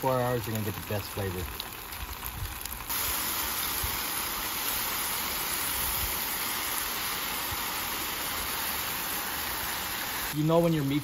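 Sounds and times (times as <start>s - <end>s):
meat sizzling on a griddle: 0.0s - 10.9s.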